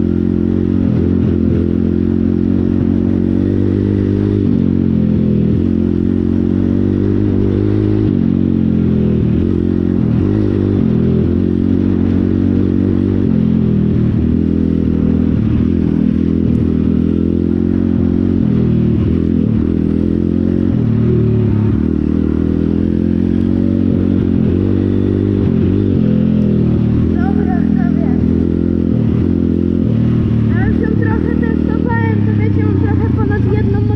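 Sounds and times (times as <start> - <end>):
motorbike engine running: 0.0 - 33.9.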